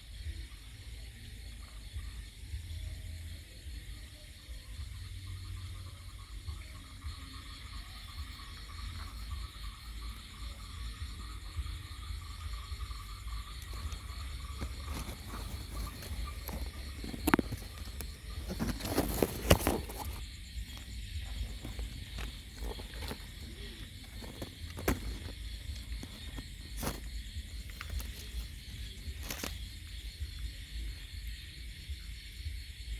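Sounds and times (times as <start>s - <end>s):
night insects chirring: 0.0s - 32.9s.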